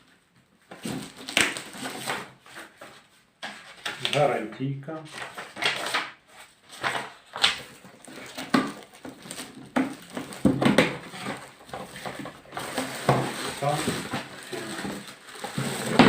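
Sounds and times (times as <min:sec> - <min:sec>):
packaging rustling and clattering: 0:00.7 - 0:16.0.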